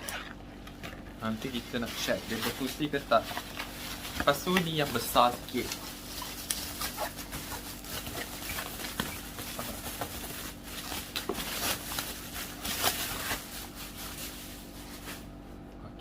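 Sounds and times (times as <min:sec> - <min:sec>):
packaging rustling and crinkling: 0:00.0 - 0:15.4.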